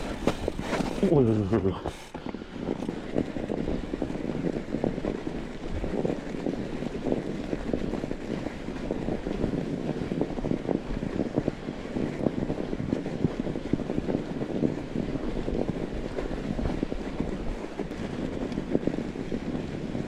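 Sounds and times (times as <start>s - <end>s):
bike tyres rumbling on snow: 0.0s - 20.0s
wind buffeting microphone: 0.0s - 20.0s.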